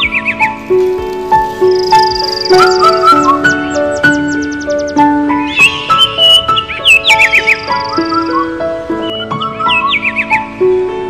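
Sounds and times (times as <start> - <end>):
melody of held notes: 0.0 - 11.0.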